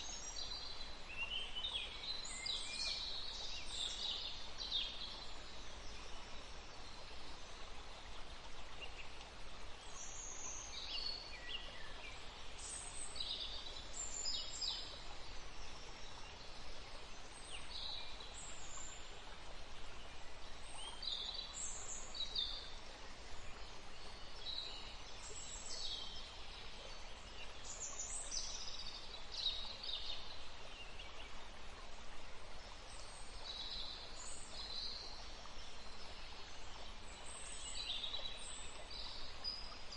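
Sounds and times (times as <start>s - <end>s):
songbirds chirping: 0.0s - 39.9s
stream flowing: 0.0s - 39.9s.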